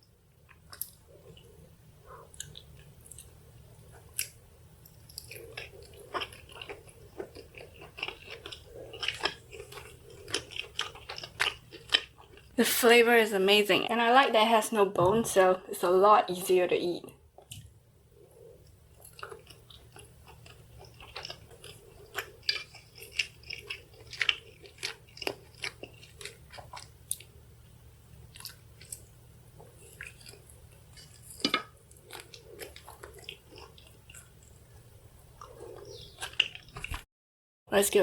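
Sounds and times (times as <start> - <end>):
chewing crunches and mouth clicks: 0.0 - 12.6, 17.4 - 37.0
faint low hum: 0.0 - 37.0.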